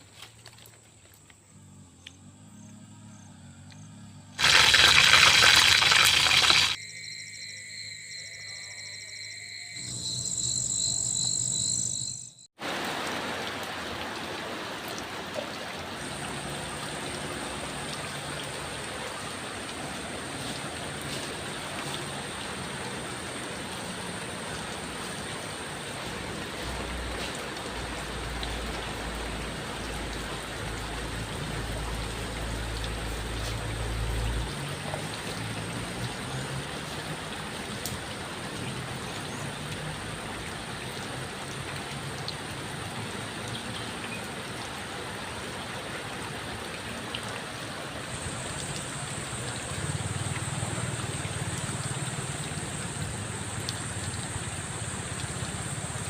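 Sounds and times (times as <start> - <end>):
heavy rain falling: 4.4 - 6.8, 12.6 - 56.0.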